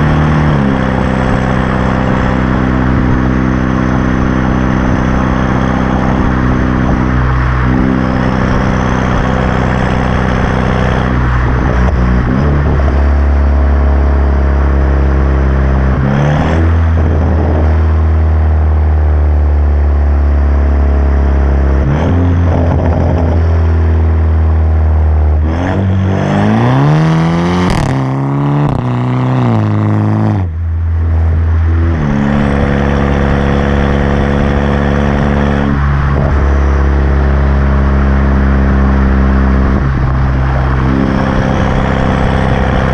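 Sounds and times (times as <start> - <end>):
car exhaust idling: 0.0 - 26.9, 27.7 - 42.9
engine revving: 0.0 - 42.9.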